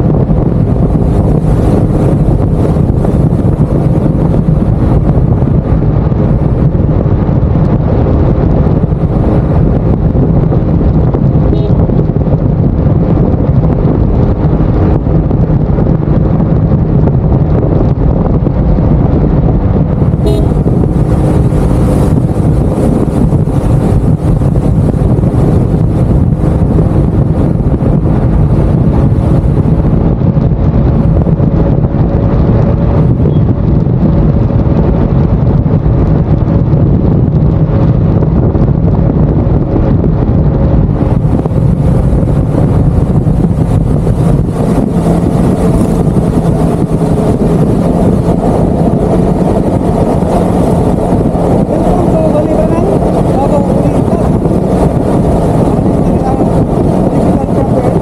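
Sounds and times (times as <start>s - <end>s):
scooter engine hum: 0.0s - 36.6s, 38.1s - 58.0s
wind on microphone: 0.0s - 58.0s.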